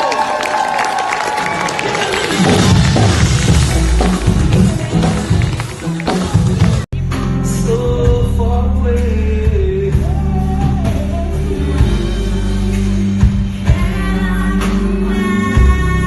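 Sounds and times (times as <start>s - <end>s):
live band playing: 1.9s - 16.0s.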